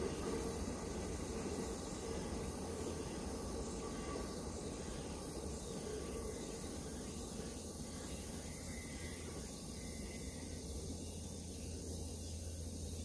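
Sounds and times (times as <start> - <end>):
distant freight train rumble: 0.0 - 13.0
outdoor hiss: 0.0 - 13.0.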